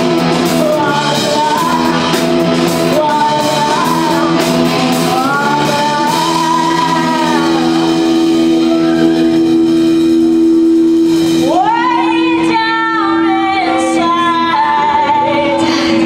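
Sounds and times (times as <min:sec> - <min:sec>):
live rock band: 0:00.0 - 0:16.0
woman singing wailing notes: 0:00.0 - 0:16.0.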